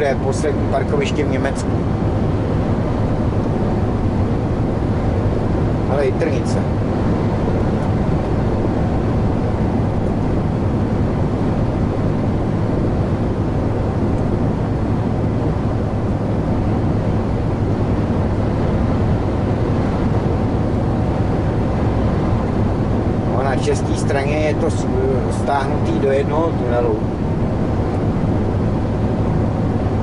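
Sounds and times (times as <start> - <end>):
lorry engine hum: 0.0 - 30.0
wind noise: 0.0 - 30.0.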